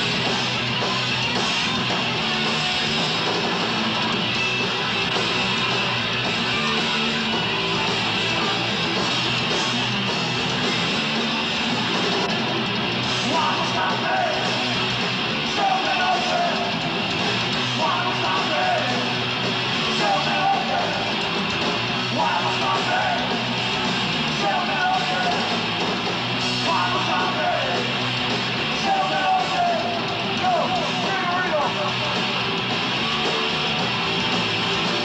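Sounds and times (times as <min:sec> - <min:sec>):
punk rock band playing: 0:00.0 - 0:35.0.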